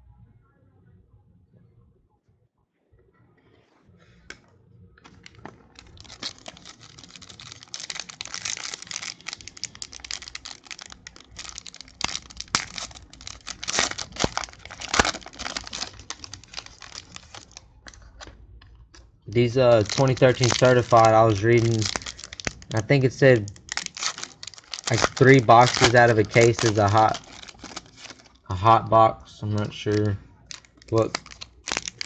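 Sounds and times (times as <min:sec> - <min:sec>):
plastic wrapper tearing and crinkling: 0:05.0 - 0:32.0.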